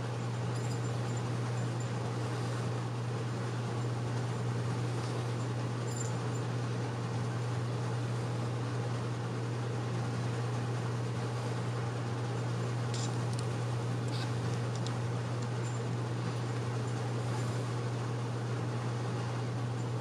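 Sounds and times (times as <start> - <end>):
steady low hum with hiss: 0.0 - 20.0.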